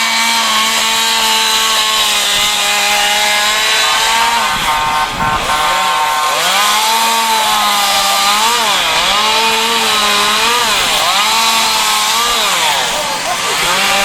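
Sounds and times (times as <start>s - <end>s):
chainsaw carving wood: 0.0s - 14.0s.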